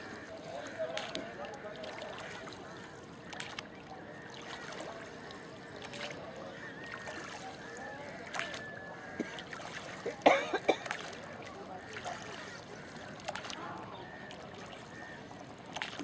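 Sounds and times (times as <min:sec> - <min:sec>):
light water sounds: 0:00.0 - 0:16.0.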